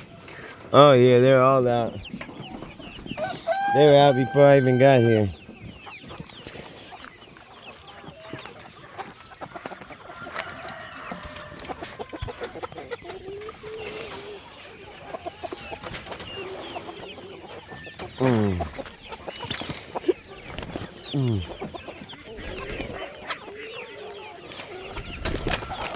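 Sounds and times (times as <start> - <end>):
chickens clucking: 0.0 - 25.9.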